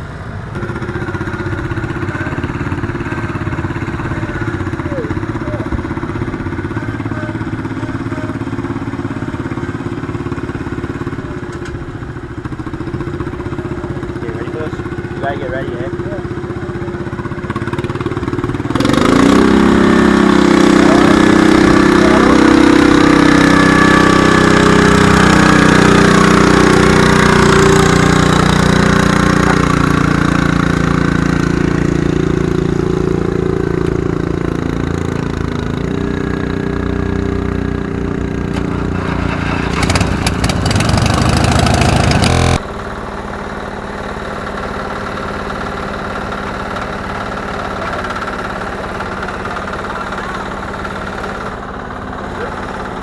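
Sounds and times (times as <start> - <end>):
tractor engine revving: 0.0 - 53.0.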